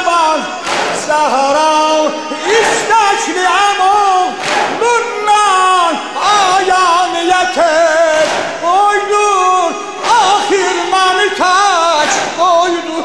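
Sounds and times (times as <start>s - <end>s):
man singing a lament: 0.0s - 13.0s.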